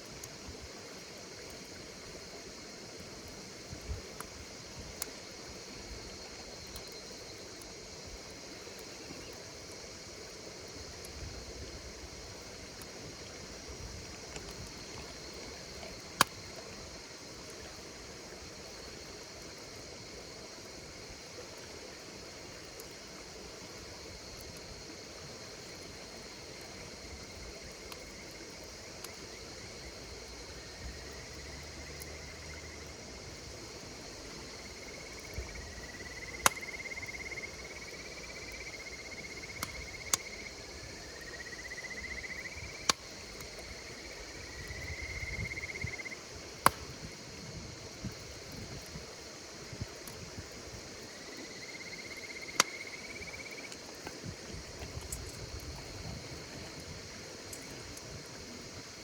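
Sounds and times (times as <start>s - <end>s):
campfire crackling: 0.0s - 59.0s
insects chirring: 0.0s - 59.0s.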